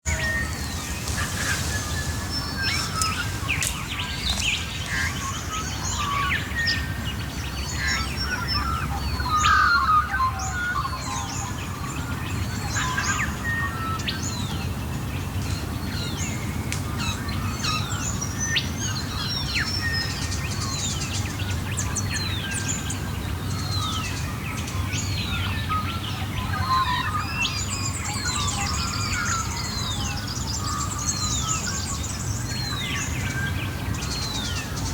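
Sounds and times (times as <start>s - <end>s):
birds singing: 0.1s - 34.9s.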